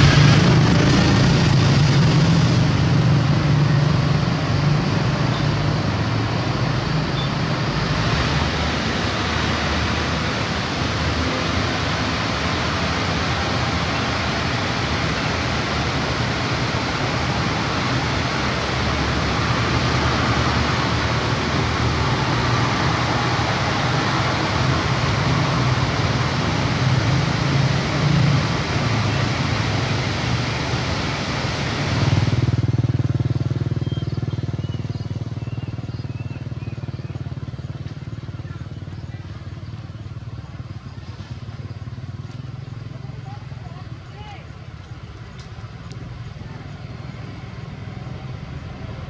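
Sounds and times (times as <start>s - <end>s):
diesel truck engine: 0.0s - 49.0s.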